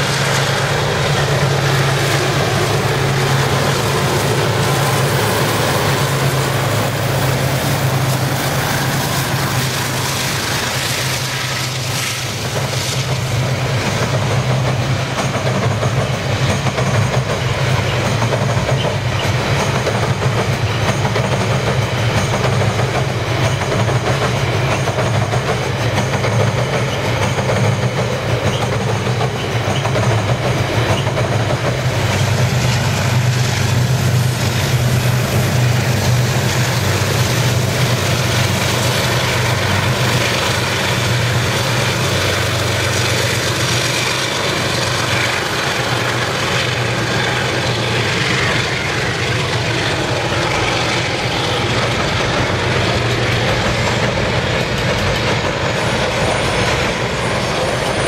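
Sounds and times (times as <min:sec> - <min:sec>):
diesel locomotive drone: 0:00.0 - 0:58.0
train wheels clacking on rails: 0:00.0 - 0:58.0.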